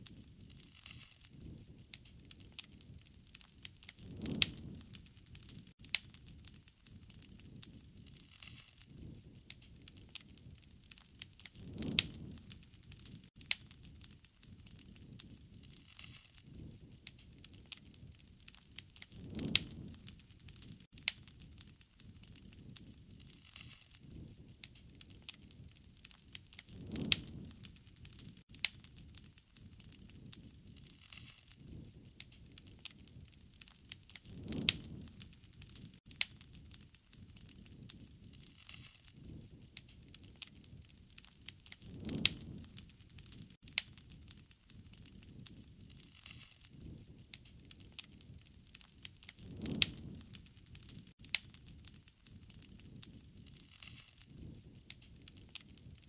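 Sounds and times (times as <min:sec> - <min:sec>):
burning wood crackling: 0:00.0 - 0:56.0
low rush of flame: 0:00.0 - 0:56.0.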